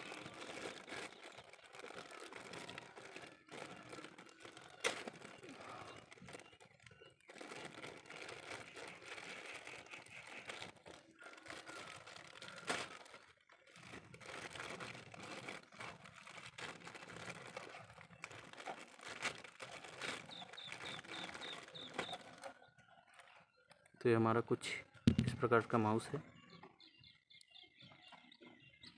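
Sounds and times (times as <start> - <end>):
plastic packaging crinkling: 0.0 - 23.4.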